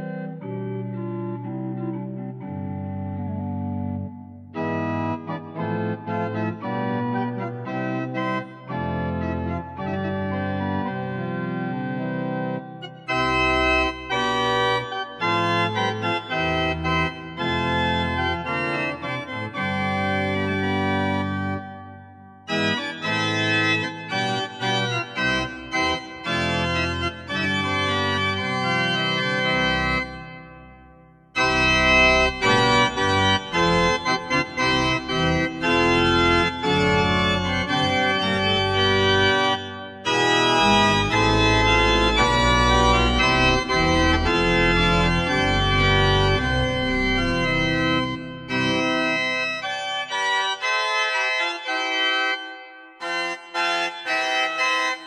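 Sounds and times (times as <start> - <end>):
deep organ bass notes: 0.0 - 52.4
sustained organ chords: 0.0 - 55.0.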